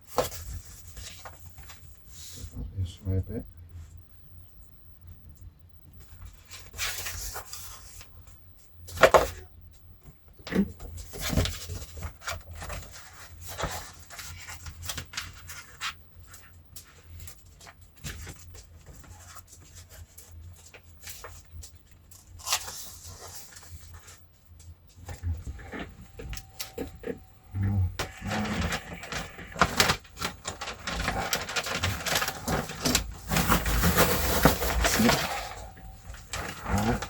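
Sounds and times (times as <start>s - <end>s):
vinyl film crinkling and rustling: 0.0s - 2.5s, 5.7s - 27.3s, 28.0s - 37.0s.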